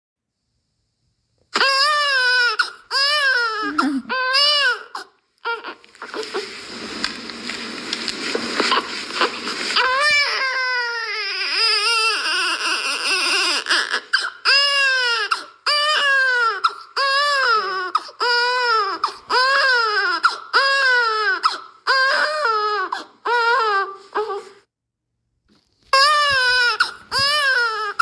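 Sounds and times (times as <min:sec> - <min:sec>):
baby crying: 0:01.5 - 0:06.4, 0:08.7 - 0:24.6, 0:25.9 - 0:28.0.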